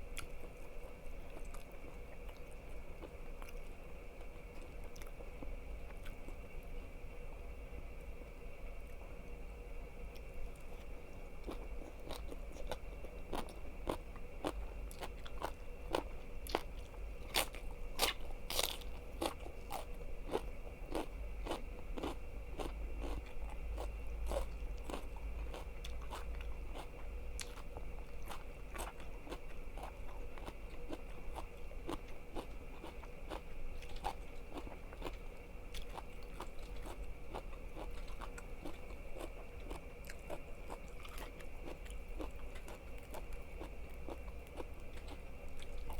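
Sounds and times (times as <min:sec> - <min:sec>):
crunchy food chewing: 0:00.0 - 0:07.0, 0:10.0 - 0:45.9.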